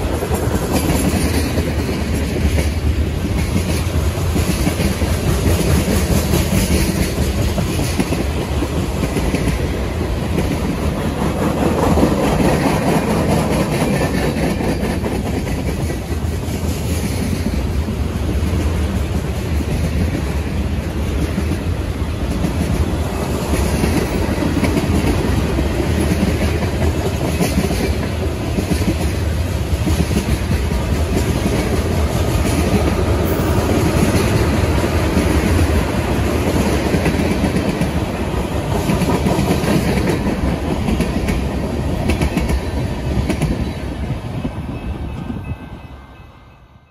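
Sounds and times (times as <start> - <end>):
freight train cars rolling: 0.0 - 46.9.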